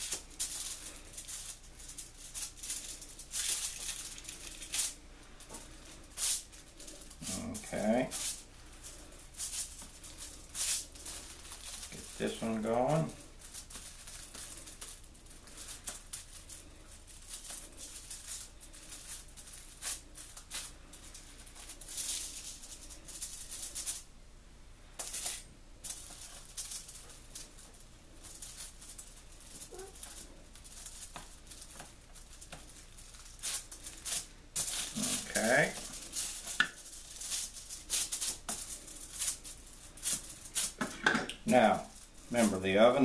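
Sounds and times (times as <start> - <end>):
foil crinkling and rustling: 0.0 - 24.1, 25.0 - 40.8.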